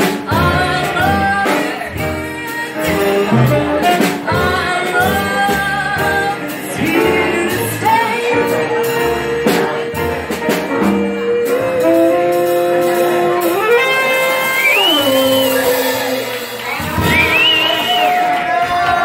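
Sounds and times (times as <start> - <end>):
drums: 0.0 - 19.0
grand piano: 0.0 - 19.0
saxophone: 0.0 - 19.0
upright bass: 0.0 - 19.0
woman singing: 0.0 - 19.0.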